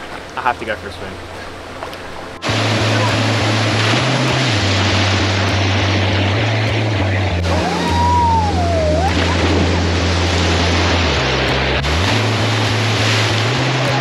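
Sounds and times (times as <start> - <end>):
water rushing over rocks: 0.0 - 14.0
deep background music: 0.6 - 14.0.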